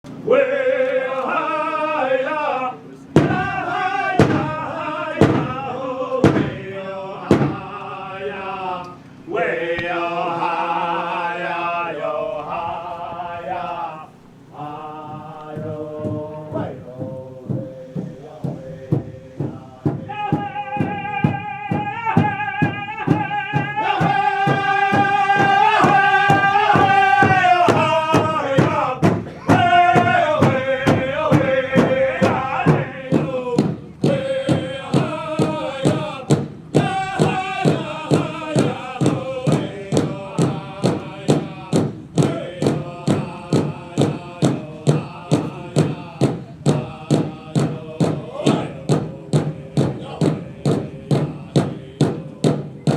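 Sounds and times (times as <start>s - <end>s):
men chanting: 0.1s - 52.9s
large drum beating: 3.2s - 7.9s, 14.6s - 52.9s.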